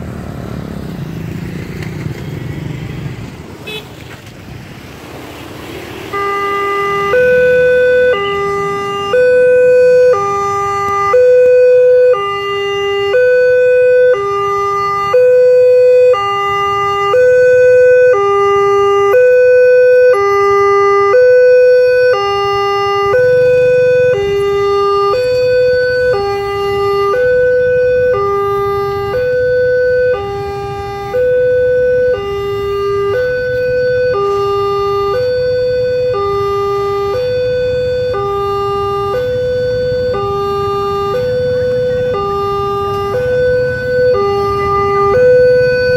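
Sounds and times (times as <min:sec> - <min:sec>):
two-tone level crossing alarm: 0:06.1 - 0:45.9.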